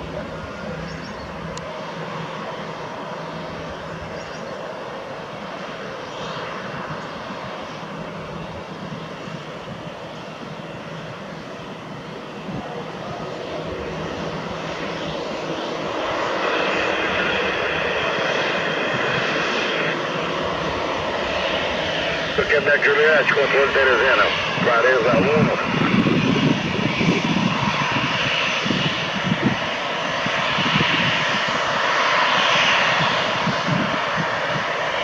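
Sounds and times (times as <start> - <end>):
jet engines roaring while taxiing: 0.0 - 35.0.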